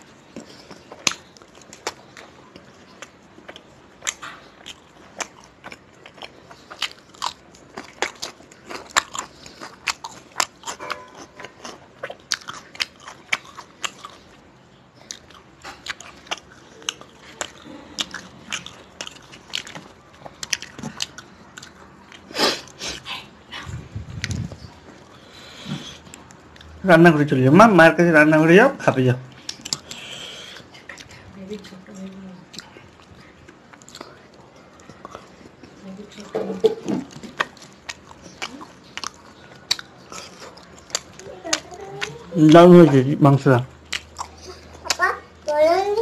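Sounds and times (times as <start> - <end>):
man biting and chewing food: 0.0 - 26.8, 29.3 - 31.3, 32.5 - 43.1, 43.7 - 45.0.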